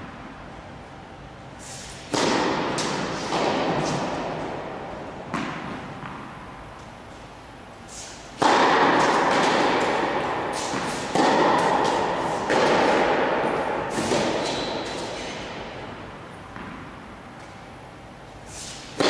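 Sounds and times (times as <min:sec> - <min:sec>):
rackets hitting tennis ball: 0:01.7 - 0:19.0.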